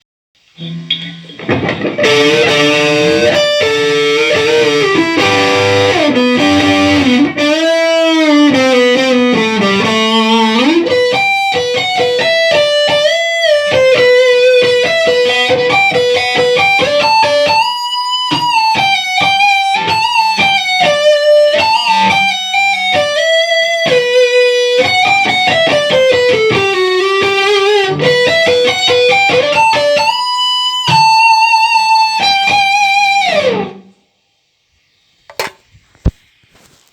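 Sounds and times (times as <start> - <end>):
electric guitar chords and lead: 0.6 - 33.8.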